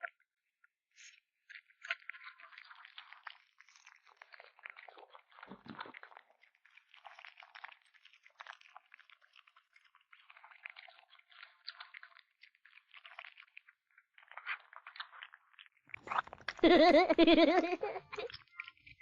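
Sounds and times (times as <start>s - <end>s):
kitten chewing meat: 1.6s - 19.0s.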